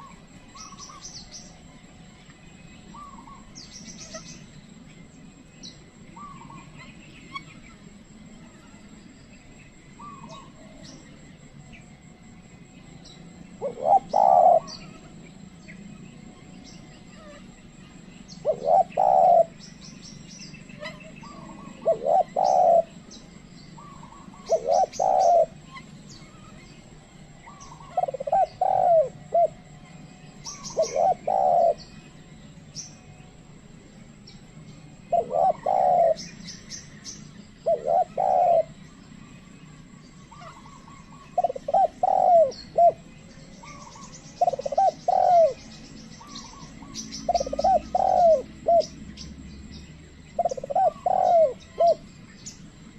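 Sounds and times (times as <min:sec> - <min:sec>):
dove cooing: 0:00.0 - 0:02.0, 0:02.6 - 0:04.9, 0:05.6 - 0:08.0, 0:09.7 - 0:12.2, 0:13.1 - 0:33.6, 0:34.5 - 0:52.9
small birds chirping: 0:00.0 - 0:52.9.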